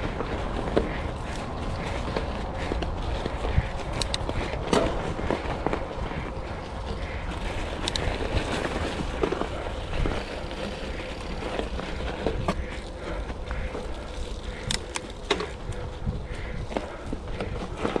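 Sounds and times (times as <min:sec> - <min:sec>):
bike clicks and rattles: 0:00.0 - 0:18.0
bike tyres on ground: 0:00.0 - 0:18.0
steady low rumble: 0:00.0 - 0:18.0.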